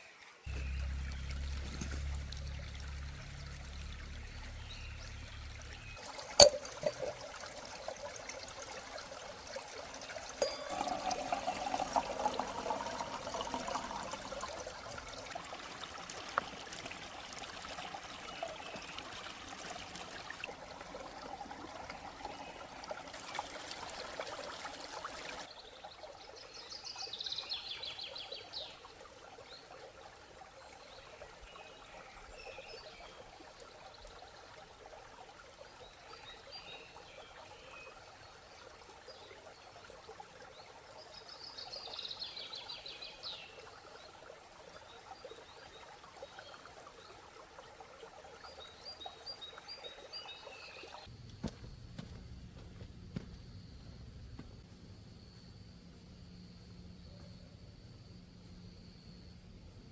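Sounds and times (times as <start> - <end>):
water trickling and pouring: 0.0 - 51.1.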